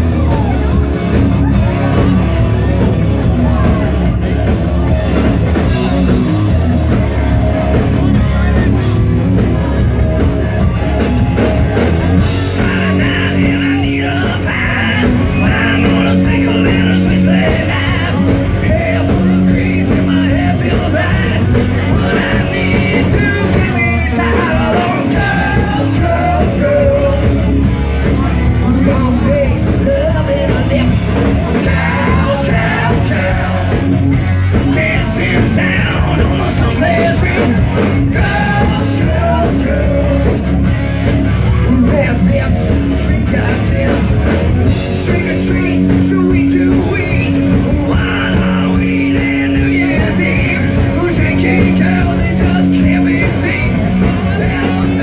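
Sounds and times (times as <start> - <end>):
drums: 0.0 - 55.0
electric guitar: 0.0 - 55.0
people singing and yelling: 0.0 - 55.0.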